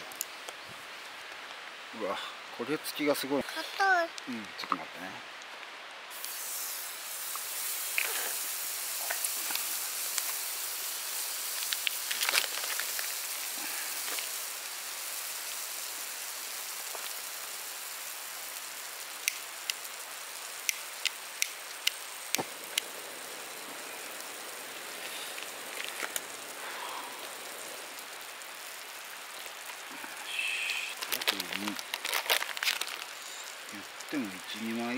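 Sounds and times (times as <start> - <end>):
butter sizzling in frying pan: 6.1 - 34.9.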